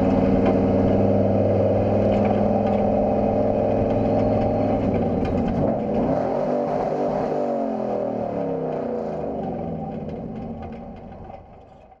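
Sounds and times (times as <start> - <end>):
race truck engine slowing: 0.0 - 12.0.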